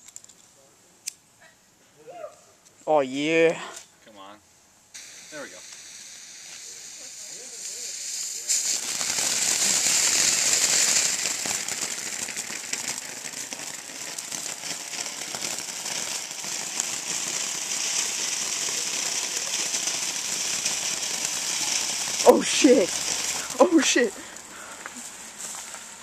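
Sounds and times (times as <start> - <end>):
firework fountain hissing and crackling: 4.9 - 26.0.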